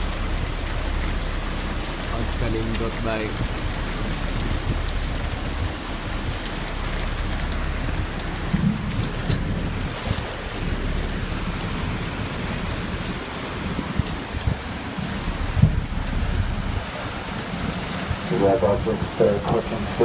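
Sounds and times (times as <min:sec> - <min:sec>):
rain and spray: 0:00.0 - 0:20.0
waterfall roaring: 0:00.0 - 0:20.0
wind buffeting microphone: 0:00.0 - 0:20.0.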